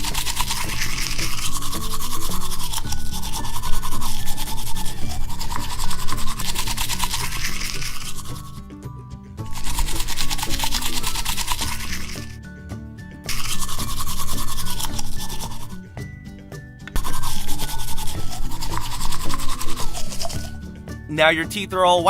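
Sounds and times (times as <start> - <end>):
toothbrush scrubbing: 0.0 - 8.7, 9.4 - 12.4, 13.3 - 15.9, 16.9 - 20.6
background music: 0.0 - 22.0.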